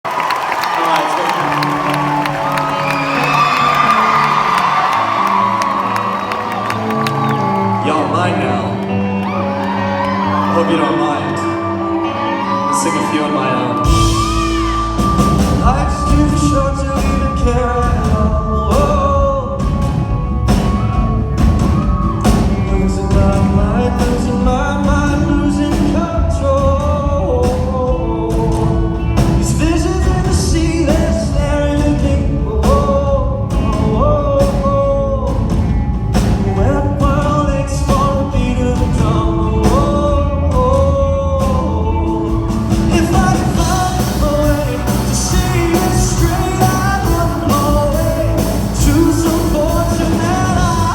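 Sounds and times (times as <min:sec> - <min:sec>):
band instruments: 0:00.0 - 0:50.9
man singing rock song: 0:00.8 - 0:50.9.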